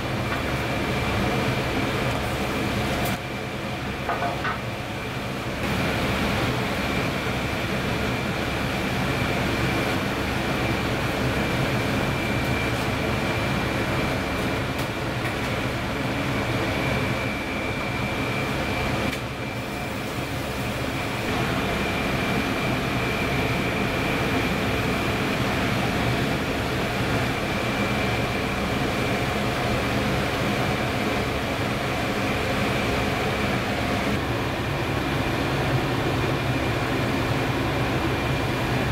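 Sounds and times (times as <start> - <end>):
water boiling in a pot: 0.0 - 38.9.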